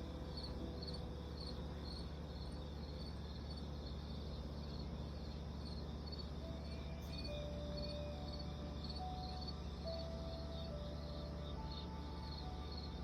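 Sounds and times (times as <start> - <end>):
crickets chirping: 0.0 - 13.0
low hum: 0.0 - 13.0.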